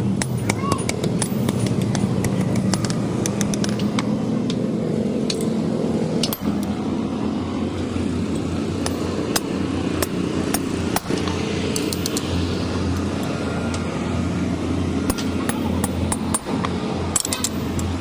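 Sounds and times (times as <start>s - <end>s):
low mechanical drone: 0.0s - 18.0s.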